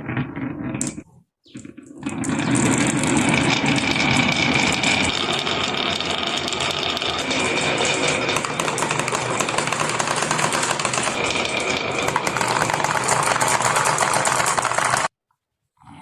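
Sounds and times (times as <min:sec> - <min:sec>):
marbles clattering down a track: 0:01.6 - 0:15.1.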